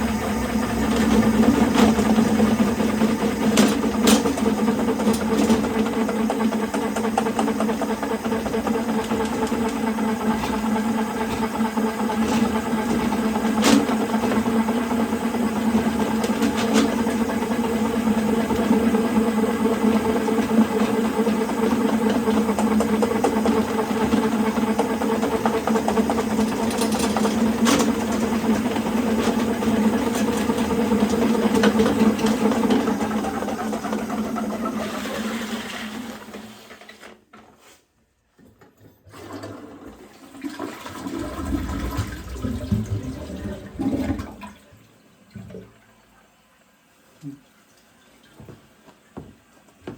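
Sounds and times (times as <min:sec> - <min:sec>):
drain-cleaning machine running: 0:00.0 - 0:37.0, 0:39.2 - 0:44.7.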